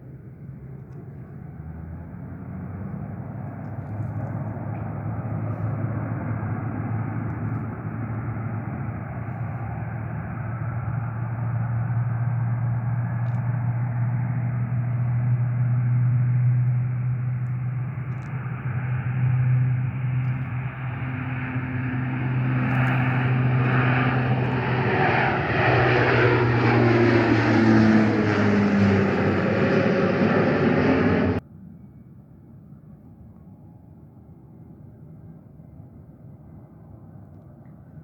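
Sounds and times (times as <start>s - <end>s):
aircraft engines humming: 0.0s - 31.4s.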